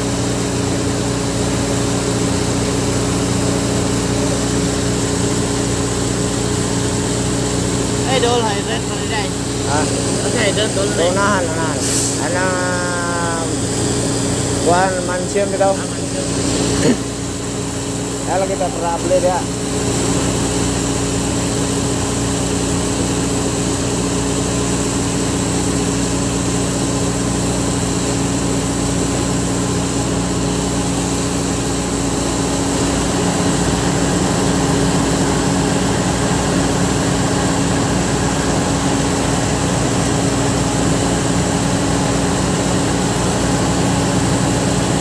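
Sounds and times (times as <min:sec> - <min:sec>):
fire truck engine droning: 0:00.0 - 0:45.0.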